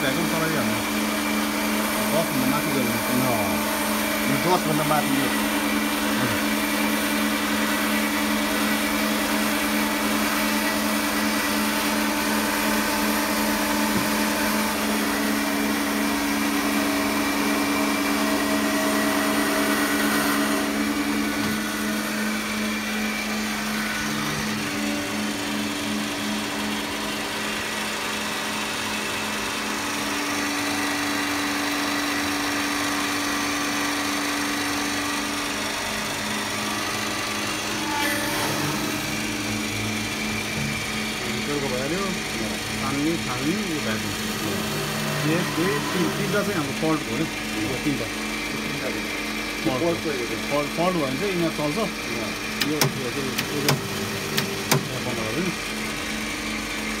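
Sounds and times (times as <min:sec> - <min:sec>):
pump motor hum and whir: 0:00.0 - 0:57.0.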